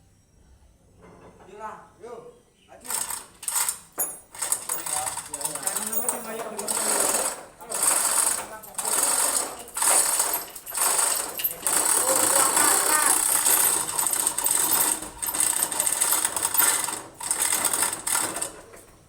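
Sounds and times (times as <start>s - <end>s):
mechanical rattling: 2.9s - 19.0s.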